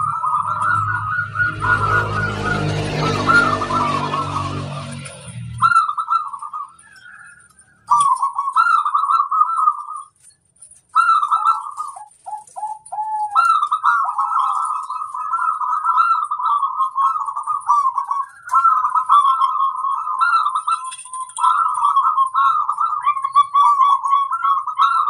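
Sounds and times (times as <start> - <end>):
doves cooing: 0.0 - 25.0.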